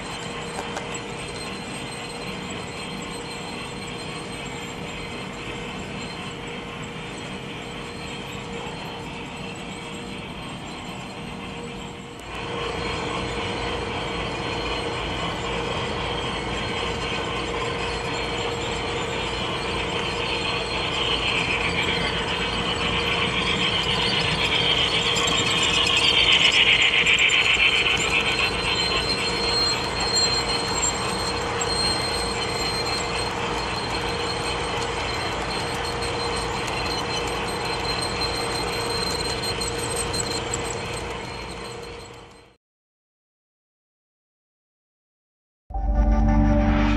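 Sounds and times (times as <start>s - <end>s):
wheels rattling on rail: 0.0s - 42.3s
model train motor hum: 0.0s - 42.4s.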